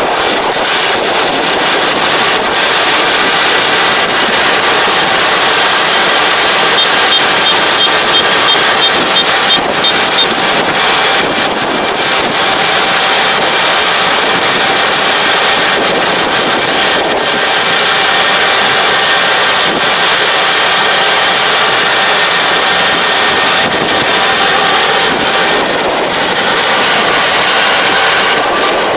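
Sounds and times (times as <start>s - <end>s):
combine harvester droning: 0.0s - 28.9s.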